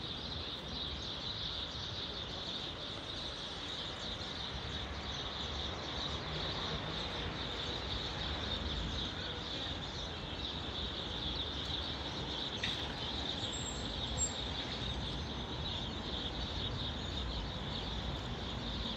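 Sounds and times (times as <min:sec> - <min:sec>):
low street rumble: 0:00.0 - 0:18.9.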